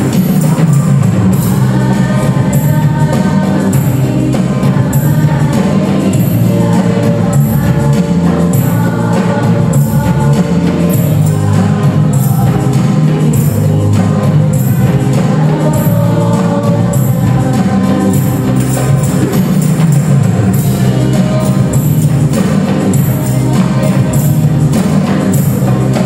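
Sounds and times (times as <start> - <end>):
hand percussion with jingles: 0.0 - 26.0
voices singing: 0.0 - 26.0.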